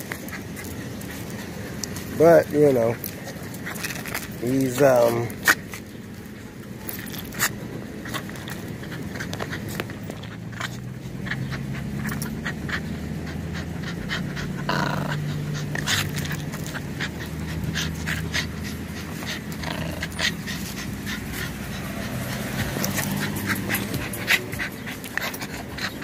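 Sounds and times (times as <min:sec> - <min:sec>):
clicks and scuffs of tugging: 0:00.0 - 0:14.4, 0:15.1 - 0:26.0
puppy panting: 0:00.0 - 0:26.0.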